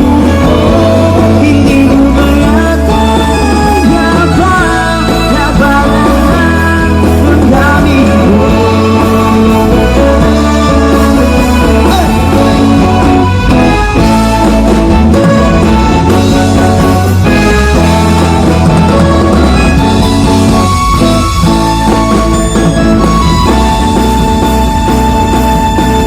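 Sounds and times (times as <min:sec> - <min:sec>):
music with singing and bass: 0:00.0 - 0:26.0.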